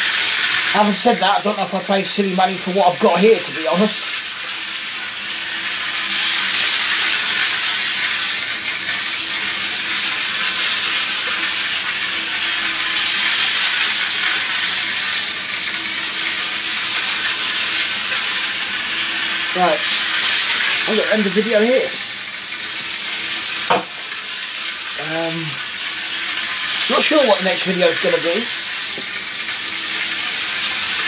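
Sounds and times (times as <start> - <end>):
model train motor whirring on rails: 2.7 - 31.0.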